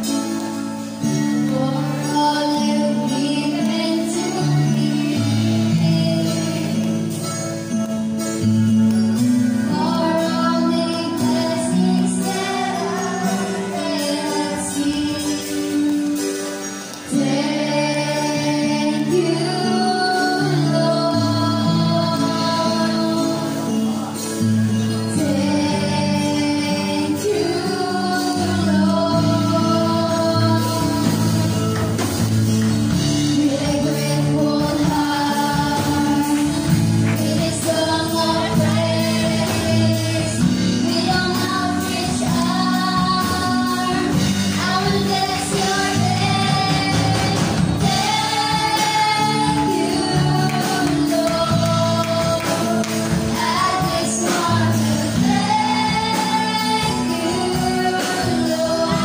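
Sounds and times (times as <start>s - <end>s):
children's choir singing gospel: 0.0s - 59.0s
girl singing lead: 0.0s - 59.0s
instrumental accompaniment: 0.0s - 59.0s.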